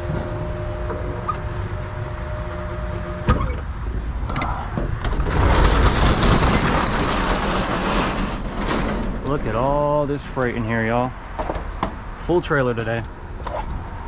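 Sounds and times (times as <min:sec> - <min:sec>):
roll-up door rumbling: 0:00.0 - 0:12.1.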